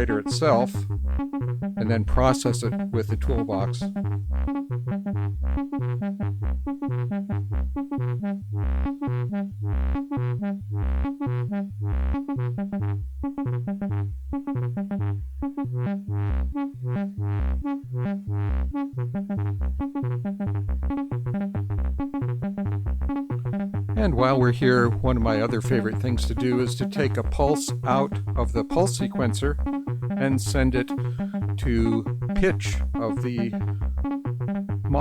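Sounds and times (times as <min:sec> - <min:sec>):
synthesizer sequence: 0:00.0 - 0:35.0.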